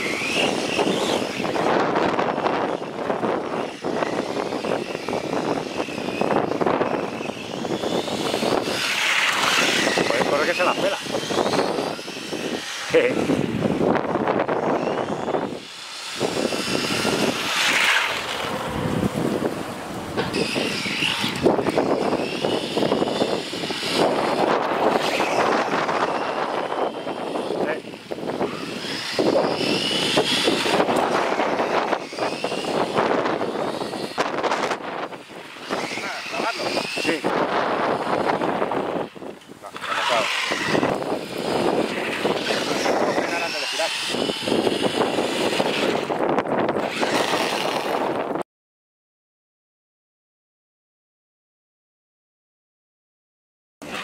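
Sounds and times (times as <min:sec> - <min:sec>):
electric motor whine: 0:00.0 - 0:48.4.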